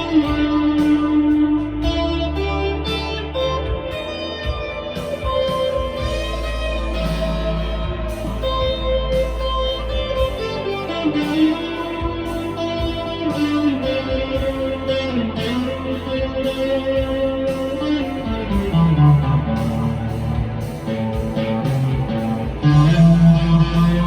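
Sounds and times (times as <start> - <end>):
electric guitar ringing notes: 0.0 - 24.0.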